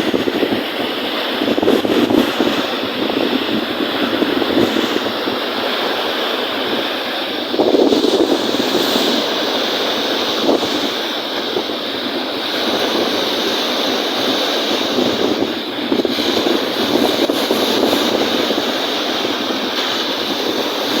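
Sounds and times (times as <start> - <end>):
choppy waves: 0.0 - 21.0
strong wind: 0.0 - 21.0.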